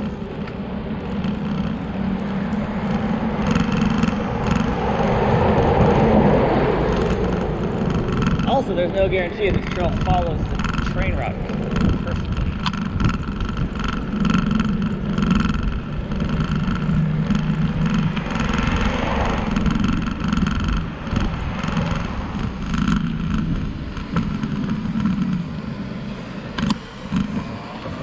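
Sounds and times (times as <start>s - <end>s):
bicycle riding on pavement: 0.0s - 28.0s.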